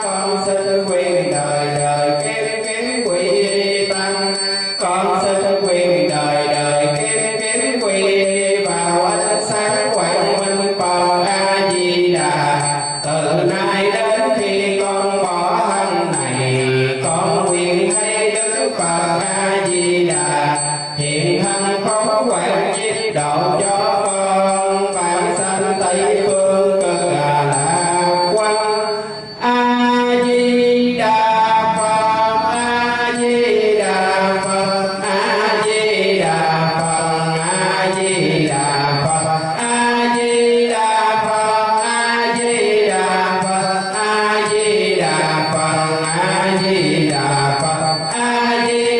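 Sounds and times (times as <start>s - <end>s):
person chanting: 0.0s - 48.9s.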